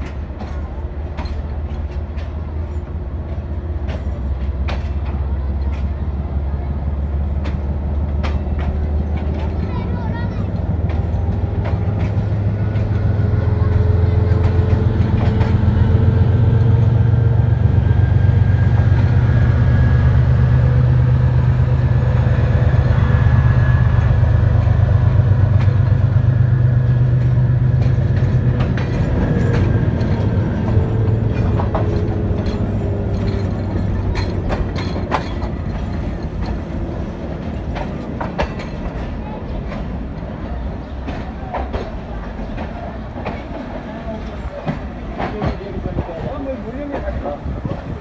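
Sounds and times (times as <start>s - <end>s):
diesel locomotive engine humming: 0.0s - 48.0s
train wheels clicking over rails: 0.0s - 48.0s.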